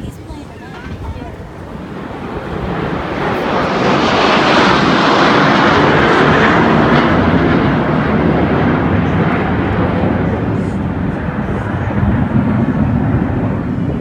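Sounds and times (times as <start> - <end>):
fighter jets roaring overhead: 0.0 - 14.0.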